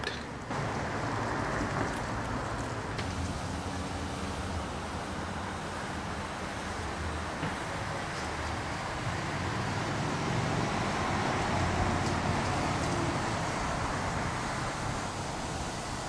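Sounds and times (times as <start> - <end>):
road traffic rumble: 0.0 - 16.0
vehicle passing: 0.4 - 16.0.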